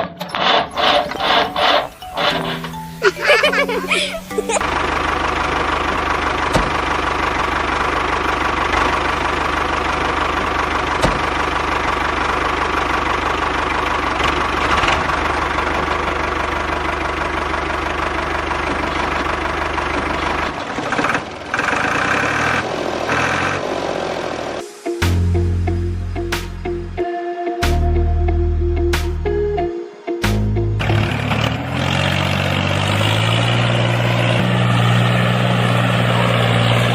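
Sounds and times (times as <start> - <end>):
tractor engine running: 0.0 - 27.0, 30.4 - 36.9.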